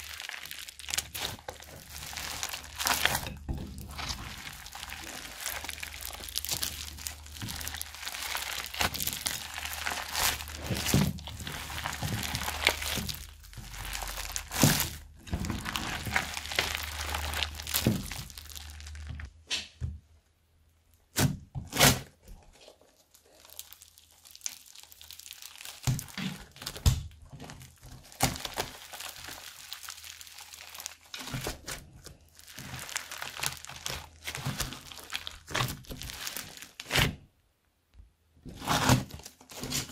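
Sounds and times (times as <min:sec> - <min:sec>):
slime crackling when squeezed: 0:00.0 - 0:19.3, 0:22.8 - 0:26.8, 0:27.6 - 0:37.2.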